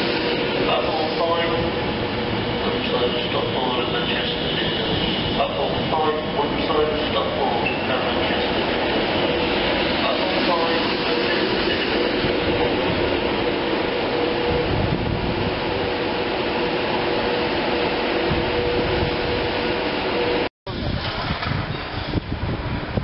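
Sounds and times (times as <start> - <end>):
electric train whirring hum: 0.0 - 23.0
gusty noise: 0.0 - 23.0.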